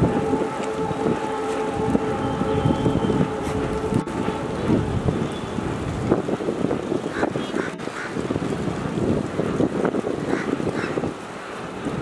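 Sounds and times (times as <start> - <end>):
train wheels rumbling on bridge: 0.0 - 12.0
wind buffeting microphone: 0.0 - 12.0.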